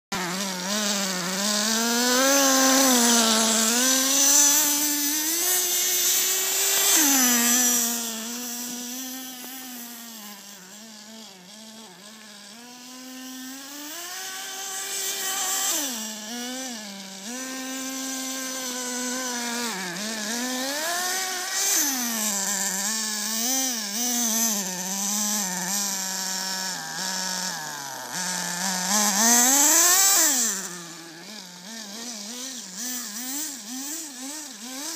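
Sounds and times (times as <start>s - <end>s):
small nitro engine revving: 0.1s - 34.9s.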